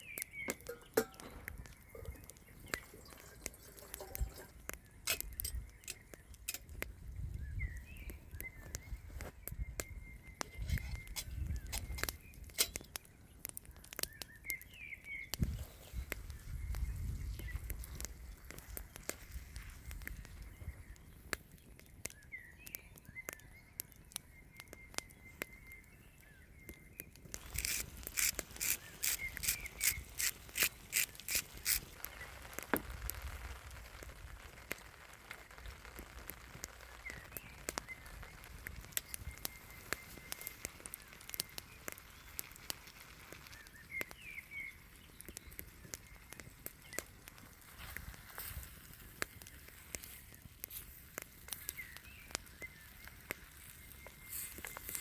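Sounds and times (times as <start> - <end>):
campfire crackling: 0.0 - 55.0
chirps: 0.0 - 55.0.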